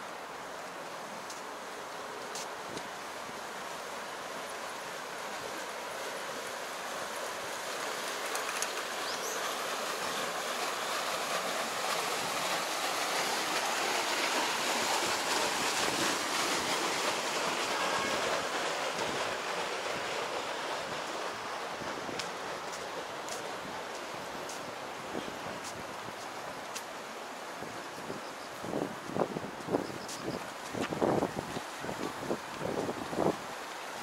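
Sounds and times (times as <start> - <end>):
rushing flowing water: 0.0 - 34.0.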